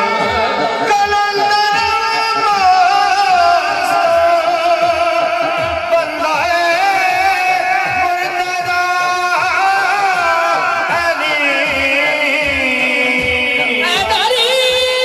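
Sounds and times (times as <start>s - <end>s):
men singing through a pa system: 0.0s - 15.0s.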